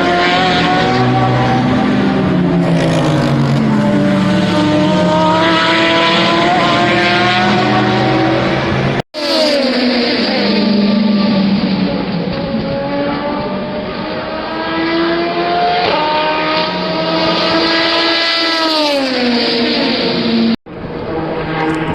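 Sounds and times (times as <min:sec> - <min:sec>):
race car engines: 0:00.0 - 0:21.9.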